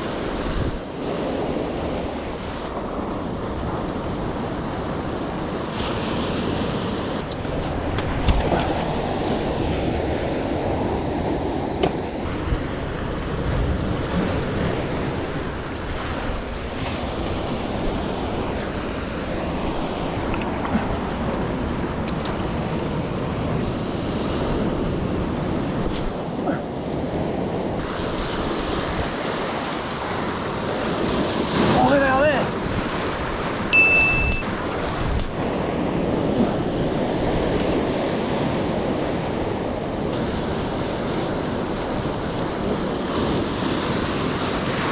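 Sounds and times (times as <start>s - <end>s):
ocean surf breaking: 0.0s - 44.9s
wind buffeting microphone: 0.0s - 44.9s.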